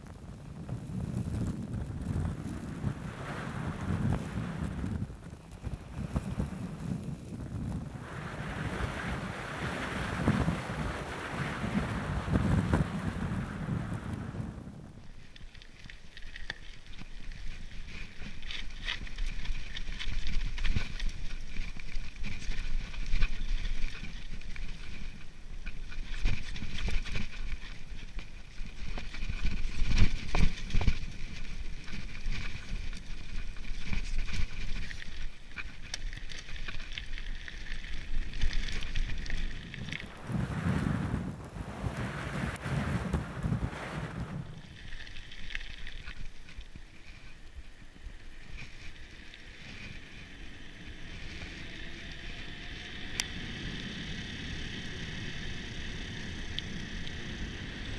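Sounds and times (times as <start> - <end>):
mountain bike rattling over gravel: 0.0 - 57.9.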